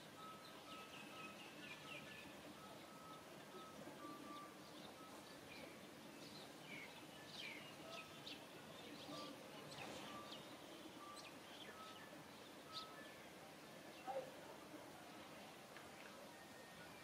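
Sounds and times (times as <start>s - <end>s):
birds chirping: 0.0s - 14.3s.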